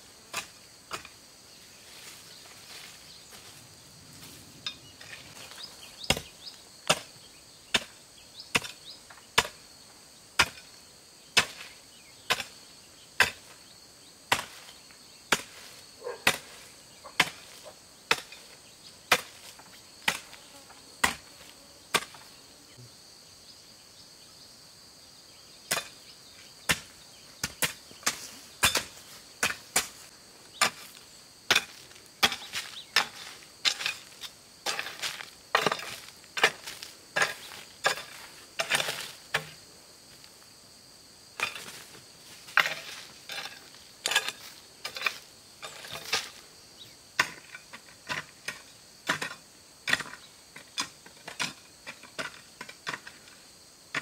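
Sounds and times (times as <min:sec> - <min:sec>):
high drone of insects: 0:00.0 - 0:54.0.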